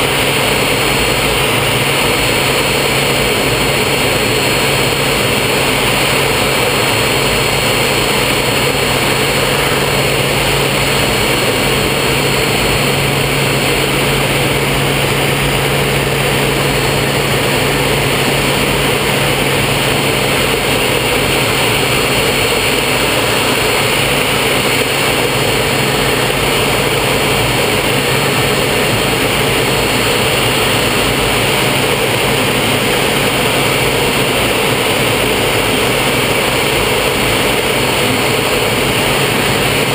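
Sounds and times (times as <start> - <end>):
jet engine and rushing airflow: 0.0 - 39.9.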